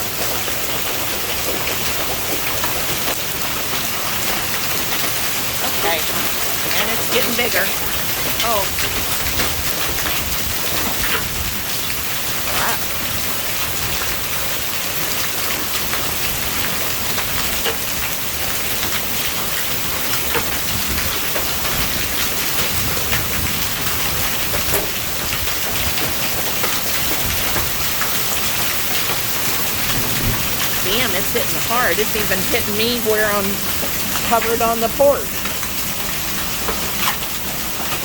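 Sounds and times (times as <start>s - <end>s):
hailstones ticking: 0.0s - 38.0s
heavy rain hissing: 0.0s - 38.0s.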